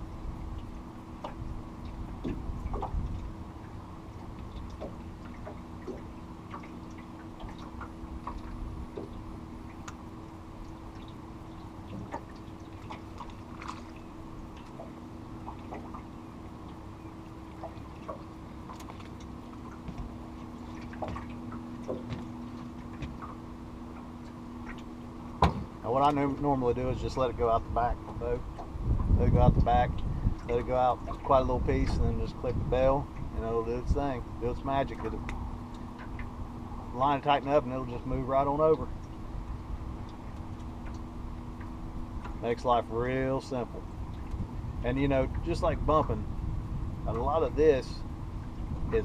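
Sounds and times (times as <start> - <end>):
water drips and ticks: 0.0 - 26.5, 27.4 - 44.6
boat motor humming: 0.0 - 49.0.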